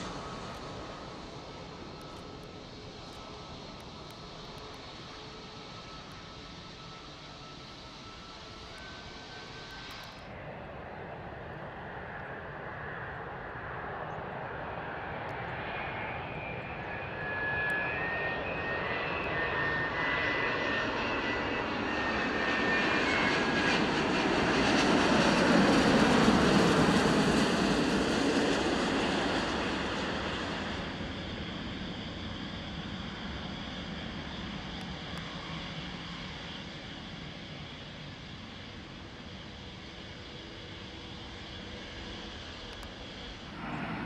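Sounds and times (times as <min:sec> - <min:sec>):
jet airliner engines whining and roaring: 0:00.0 - 0:44.0.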